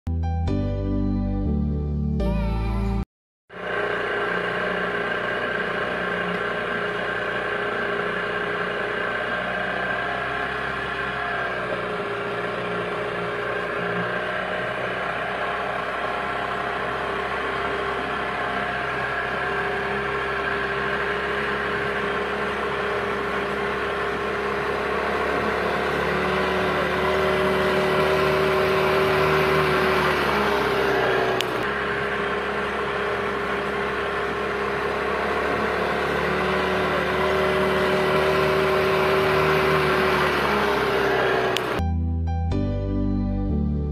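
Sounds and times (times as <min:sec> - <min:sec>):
boat motor droning: 0:03.5 - 0:41.8.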